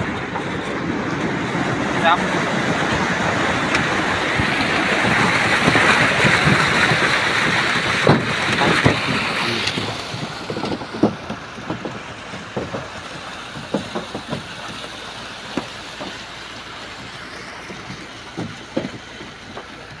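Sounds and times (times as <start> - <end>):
water rushing down a chute: 0.0 - 20.0.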